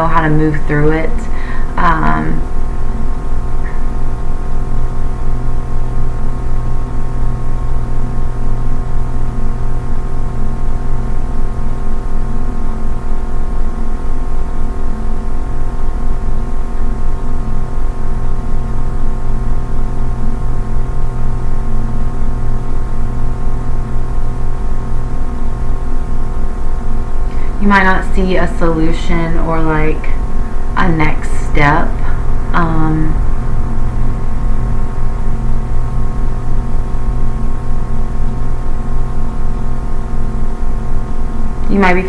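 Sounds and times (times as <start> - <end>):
strong low hum: 0.0 - 42.0.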